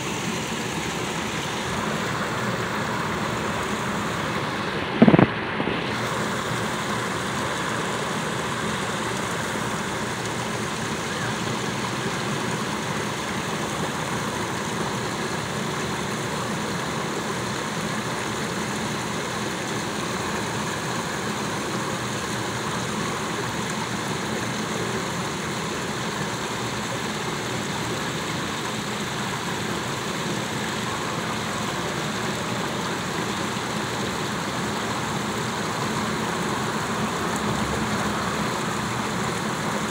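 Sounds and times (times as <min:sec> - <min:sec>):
fountain water splashing over rocks: 0:00.0 - 0:39.9.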